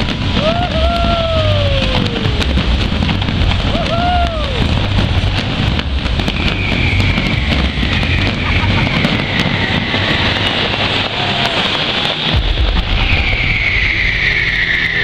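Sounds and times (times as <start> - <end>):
low rumble of bangs: 0.0 - 14.1
fireworks crackling: 0.0 - 15.0
whistling fireworks: 0.0 - 15.0.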